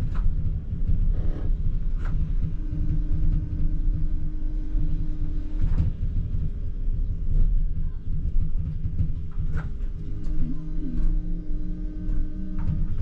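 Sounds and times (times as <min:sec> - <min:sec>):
constant hum: 0:00.0 - 0:13.0
tram rumbling on track: 0:00.0 - 0:13.0.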